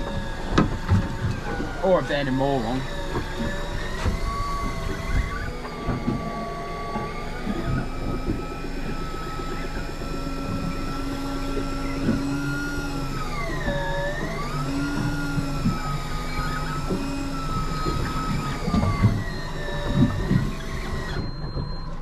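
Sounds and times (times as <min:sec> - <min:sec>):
electric fishing reel motor whine: 0:00.0 - 0:22.0.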